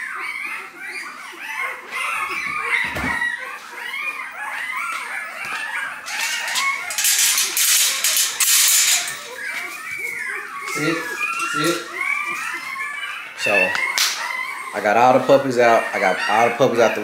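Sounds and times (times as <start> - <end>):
puppies squealing and whining: 0.0 - 17.0
loud rustling and scraping: 1.8 - 17.0.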